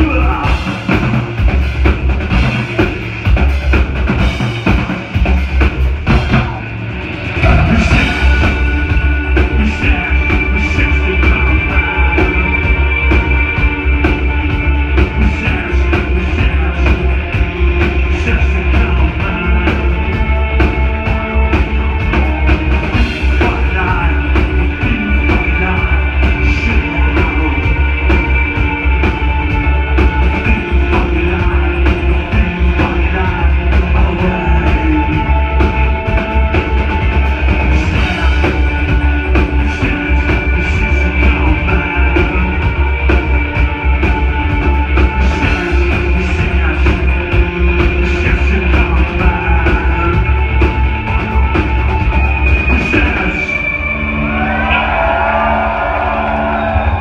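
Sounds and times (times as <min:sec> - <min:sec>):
electro-industrial band playing live: 0:00.0 - 0:57.0.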